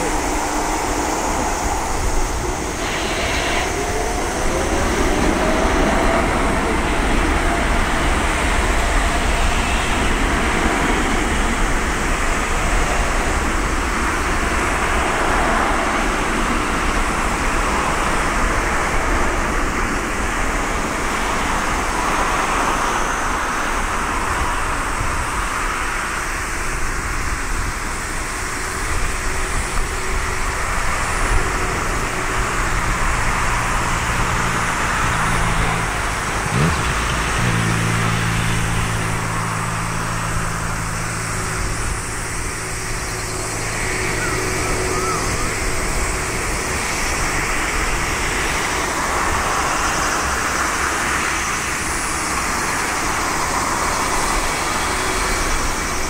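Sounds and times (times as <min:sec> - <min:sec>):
jet engine rush: 0:00.0 - 0:56.0.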